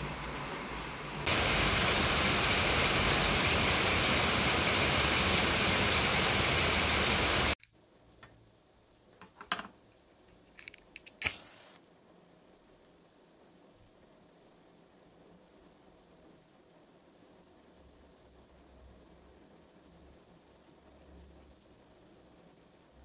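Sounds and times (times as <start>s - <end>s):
steady rain falling: 0.0s - 7.6s, 12.1s - 23.0s.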